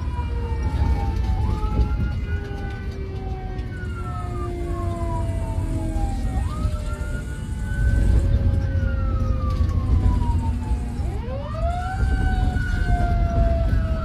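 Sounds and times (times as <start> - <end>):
engine and road rumble: 0.0 - 14.0
fire engine siren wailing: 0.0 - 14.0.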